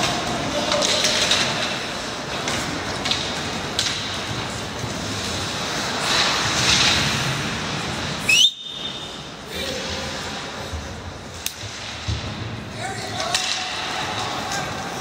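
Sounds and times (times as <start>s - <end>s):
skate blades scraping: 0.0s - 15.0s
skates carving on ice: 0.0s - 15.0s.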